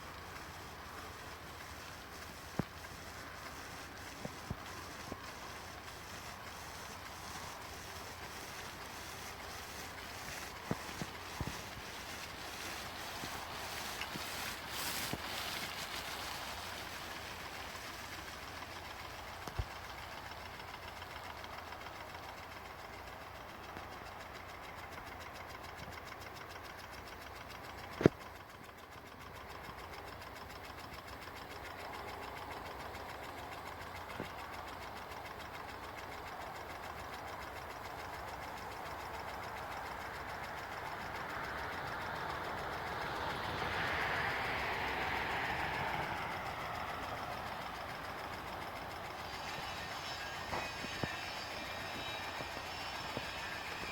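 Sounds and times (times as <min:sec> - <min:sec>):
rhythmic mechanical clatter: 0:00.0 - 0:53.9.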